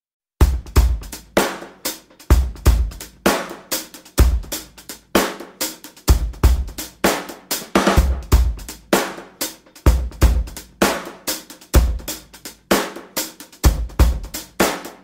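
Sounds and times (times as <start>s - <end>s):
drum kit beat: 0.4s - 15.0s.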